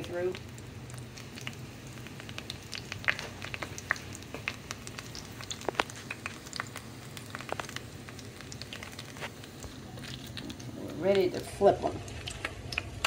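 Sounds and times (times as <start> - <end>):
butter and oil sizzling: 0.0 - 13.0
pops and crackles: 0.3 - 11.3, 11.9 - 13.0.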